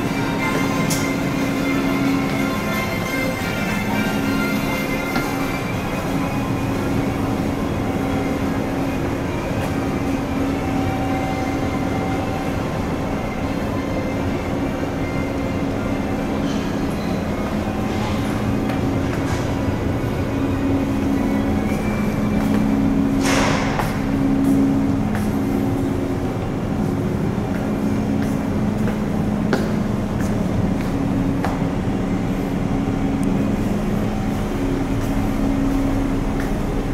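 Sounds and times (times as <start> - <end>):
ship engine drone: 0.0 - 36.9.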